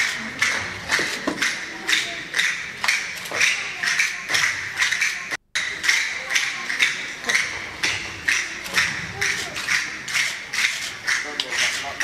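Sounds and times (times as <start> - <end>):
rhythmic hand clapping: 0.0 - 12.0.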